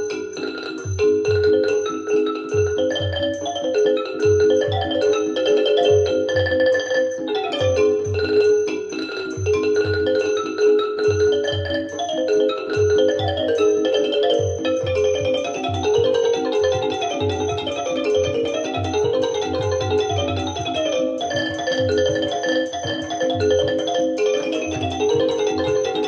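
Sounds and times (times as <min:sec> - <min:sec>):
mallet percussion melody: 0:00.0 - 0:26.0.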